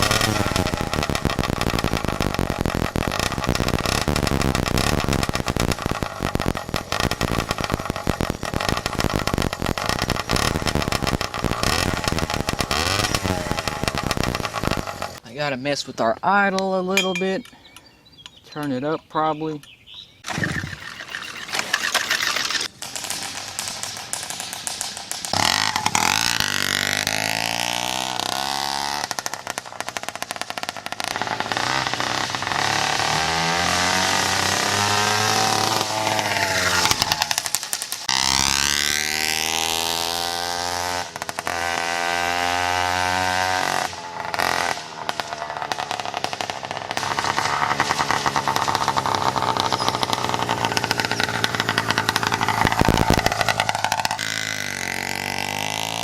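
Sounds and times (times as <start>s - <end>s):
two-stroke engine revving: 0.0s - 15.2s, 20.2s - 56.0s.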